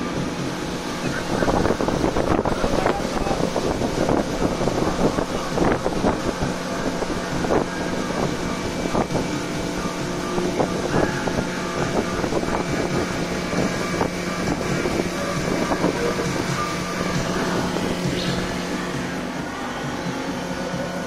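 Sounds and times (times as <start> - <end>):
hull knocking and splashing: 0.0 - 19.4
wind noise on microphone: 0.0 - 20.5
motorboat engine hum: 0.0 - 21.0.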